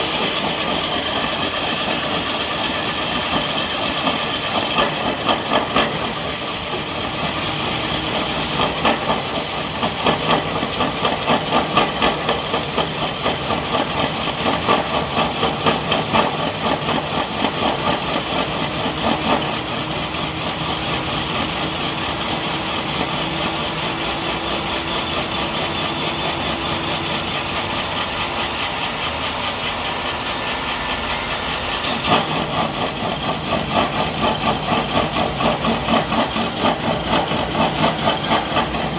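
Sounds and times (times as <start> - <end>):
core drill grinding rattle: 0.0 - 38.9.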